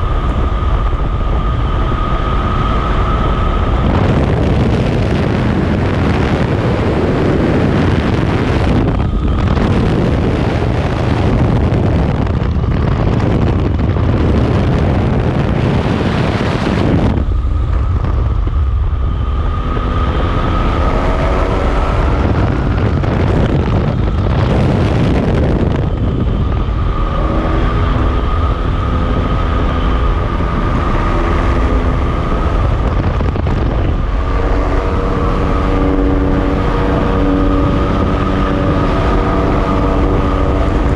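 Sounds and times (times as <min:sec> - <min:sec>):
moving vehicle rumble: 0:00.0 - 0:40.9
wavering multi-tone hum: 0:00.0 - 0:40.9
wind noise: 0:00.0 - 0:40.9.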